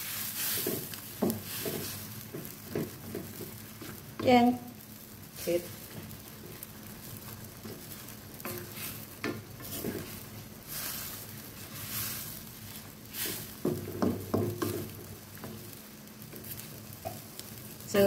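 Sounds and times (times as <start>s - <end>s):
curry bubbling and hissing: 0.0s - 18.0s
wooden spatula scraping a wok: 0.0s - 18.0s.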